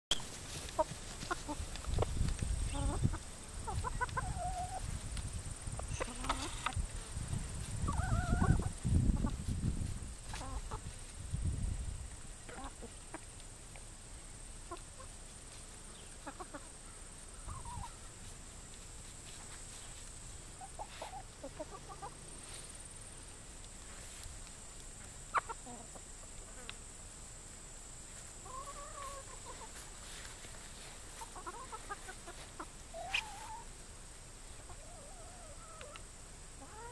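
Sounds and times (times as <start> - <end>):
hens clucking: 0.2 - 5.1, 5.7 - 6.9, 7.6 - 9.5, 10.2 - 10.9, 12.4 - 13.9, 14.6 - 22.8, 23.6 - 26.8, 28.0 - 36.9.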